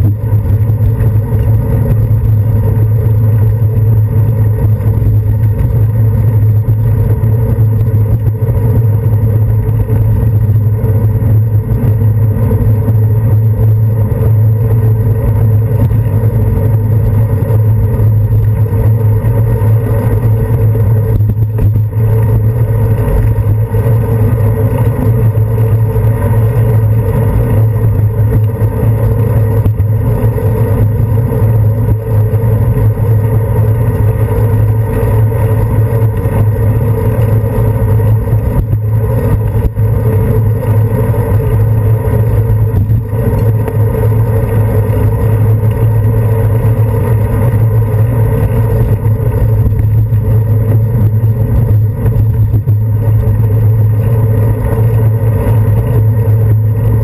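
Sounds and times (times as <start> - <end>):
road vibration rumble: 0.0 - 57.0
wind rumble on camera: 0.0 - 57.0.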